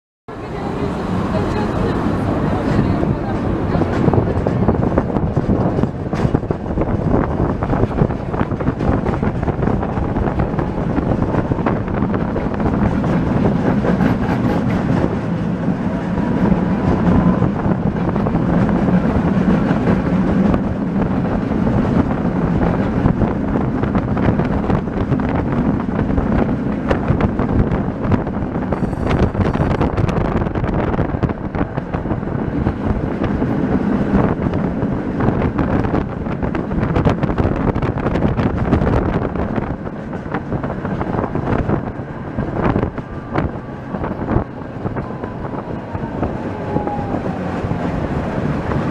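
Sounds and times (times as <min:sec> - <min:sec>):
tram rumbling on rails: 0:00.3 - 0:48.9.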